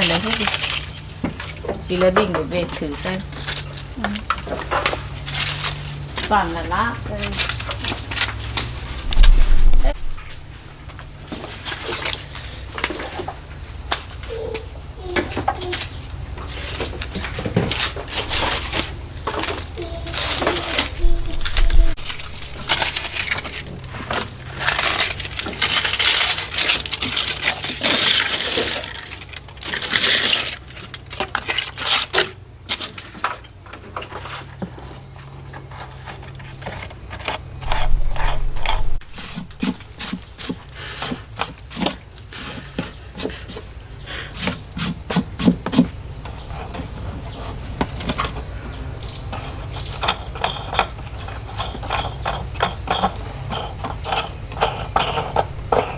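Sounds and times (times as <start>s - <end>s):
dry leaves rustling: 0.0s - 14.7s, 15.6s - 49.3s
knocks and scrapes: 0.0s - 55.9s.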